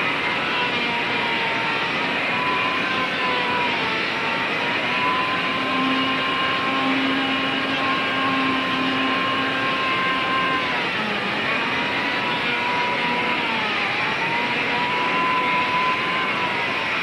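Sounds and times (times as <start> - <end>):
electric hand plane cutting wood: 0.0 - 17.0.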